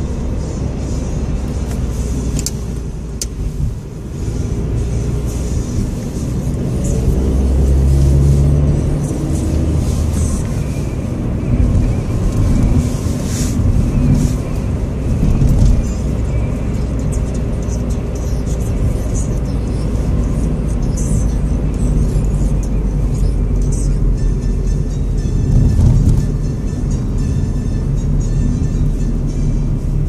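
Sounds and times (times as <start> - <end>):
car engine and road noise: 0.0 - 30.0
music from car radio: 0.0 - 30.0.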